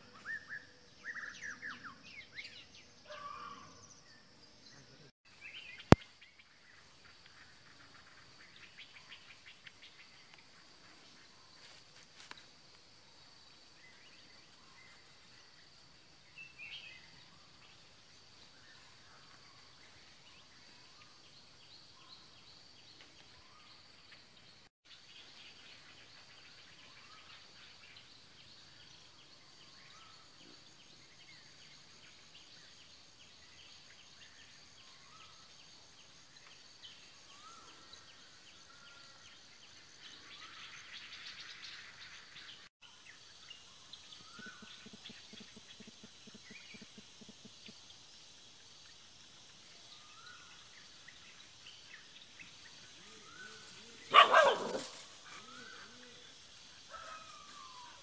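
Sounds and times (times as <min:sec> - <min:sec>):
insect buzz: 0:00.0 - 0:58.0
insects droning: 0:00.0 - 0:58.0.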